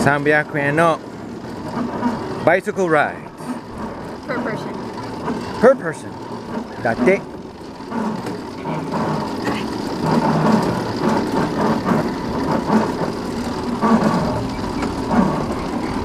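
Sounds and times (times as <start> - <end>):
rumble of cycle on steel rail: 0.0 - 16.0.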